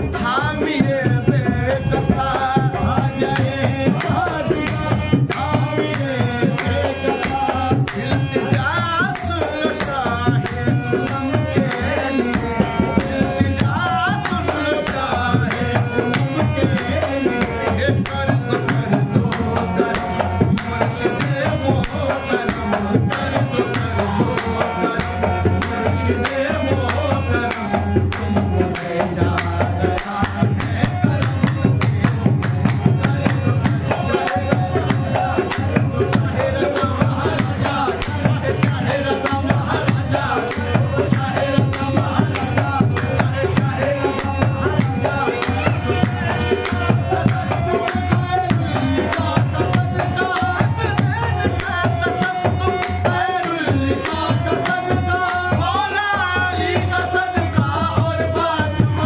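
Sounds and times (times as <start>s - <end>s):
harmonium: 0.0s - 59.0s
lead singer and chorus singing: 0.0s - 59.0s
rhythmic hand-clapping: 0.0s - 59.0s.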